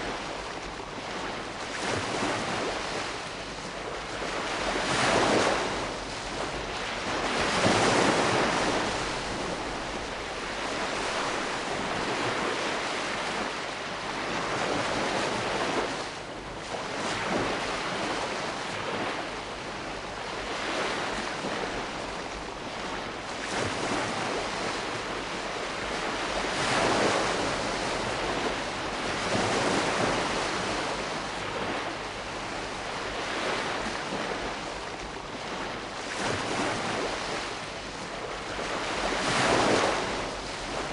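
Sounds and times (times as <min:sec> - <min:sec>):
small waves washing onto shore: 0:00.0 - 0:40.9.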